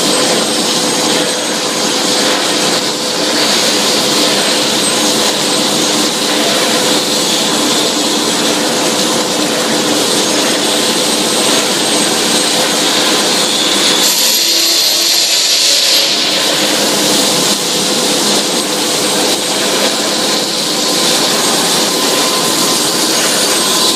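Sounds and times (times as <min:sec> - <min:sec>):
constant machine hums: 0:00.0 - 0:23.9
loud machine roar: 0:00.0 - 0:23.9.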